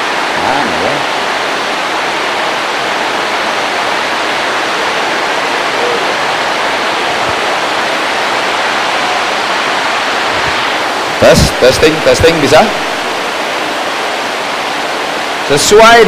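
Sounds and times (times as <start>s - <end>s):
steady loud hiss: 0.0s - 16.0s.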